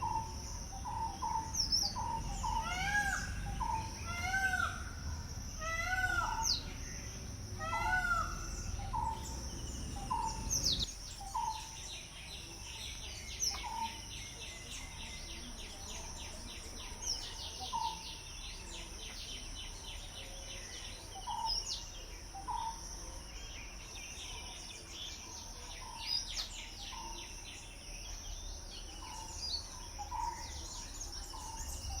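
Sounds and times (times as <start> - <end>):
high insect hum: 0.0 - 32.0.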